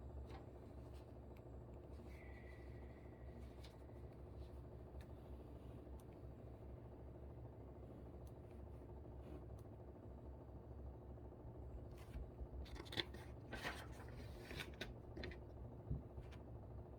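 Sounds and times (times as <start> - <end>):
air conditioner humming: 0.0 - 16.9.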